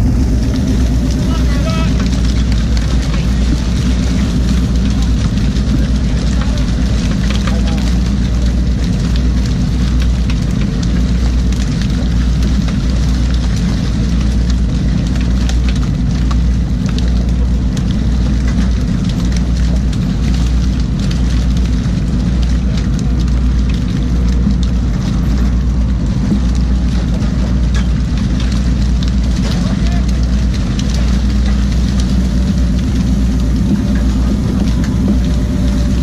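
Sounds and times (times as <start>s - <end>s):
boat engine drone: 0.0s - 36.0s
churning water: 0.0s - 36.0s
fish splashing and flapping: 0.0s - 36.0s.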